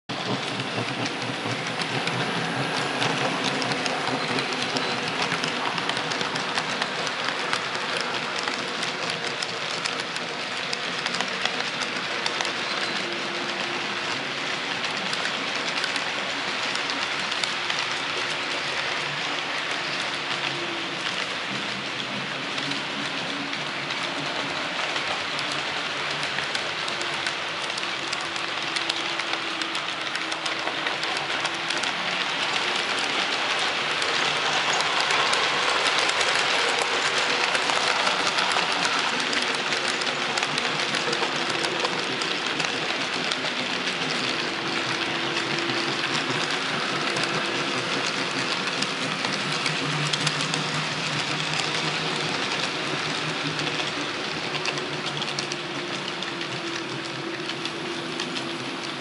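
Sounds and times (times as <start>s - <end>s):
model train wheels rattling: 0.1s - 59.0s.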